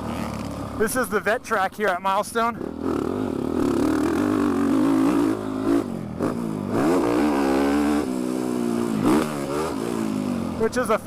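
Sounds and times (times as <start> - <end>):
dirt bike engine revving: 0.0 - 1.5, 2.5 - 11.0.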